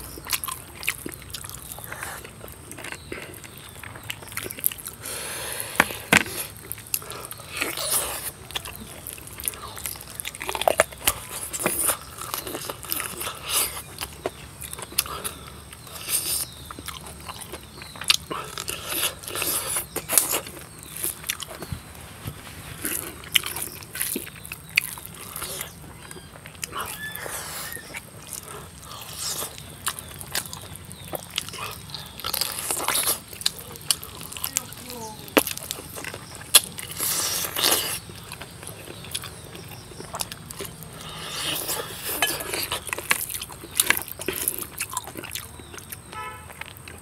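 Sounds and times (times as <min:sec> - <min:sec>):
person chewing and lip smacking: 0:00.0 - 0:22.0, 0:22.7 - 0:47.0.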